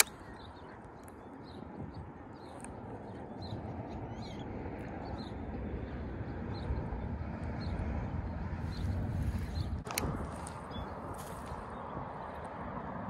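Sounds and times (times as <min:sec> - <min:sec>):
small birds chirping: 0:00.0 - 0:12.3
wind buffeting microphone: 0:00.0 - 0:13.0.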